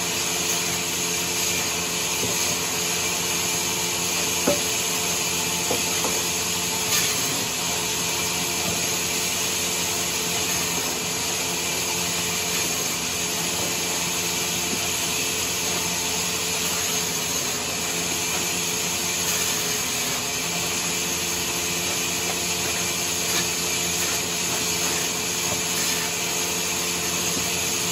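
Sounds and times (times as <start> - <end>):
sawmill machinery humming: 0.0 - 27.9.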